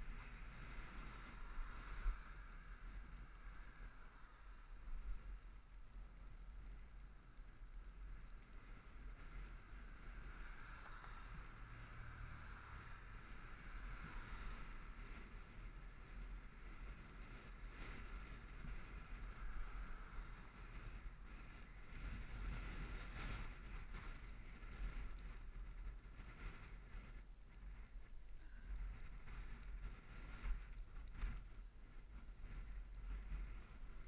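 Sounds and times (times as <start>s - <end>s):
road noise rumble: 0.0s - 34.0s
wind on microphone: 0.0s - 34.0s.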